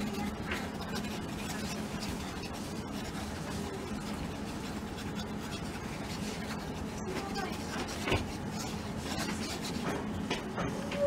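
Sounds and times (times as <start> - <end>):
pen scratching on paper: 0.0 - 10.5
steady low hum: 0.0 - 11.0.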